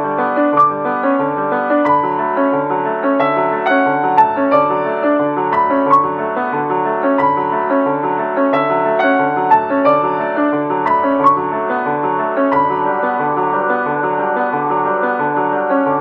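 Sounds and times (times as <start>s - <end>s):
keyboard tune: 0.0s - 16.0s.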